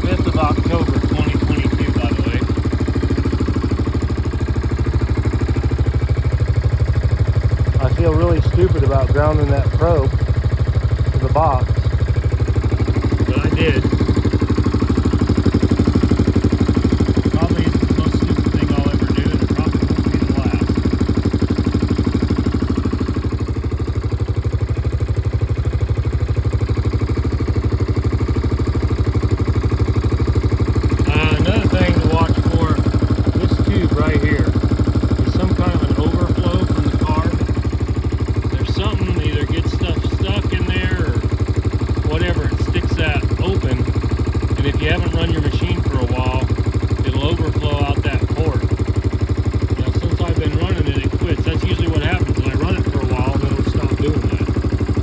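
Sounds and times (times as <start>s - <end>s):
atv engine idling: 0.0s - 55.0s.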